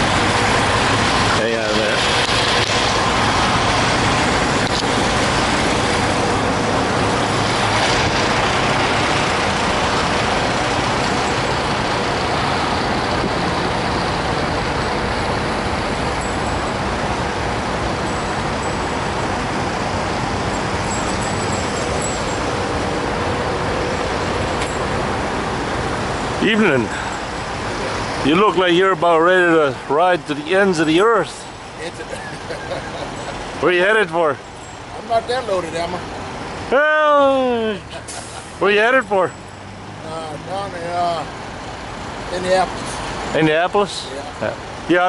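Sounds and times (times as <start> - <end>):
vehicle engines and traffic: 0.0 - 45.0.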